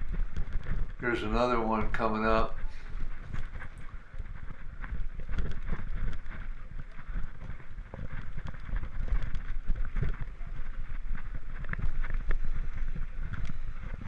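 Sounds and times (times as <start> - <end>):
bike rattles and knocks: 0.0 - 14.0
wind buffeting microphone: 0.0 - 14.0.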